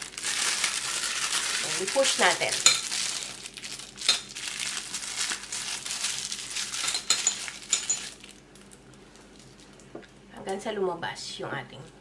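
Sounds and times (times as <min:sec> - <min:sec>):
plastic piping bag crinkling: 0:00.0 - 0:10.0.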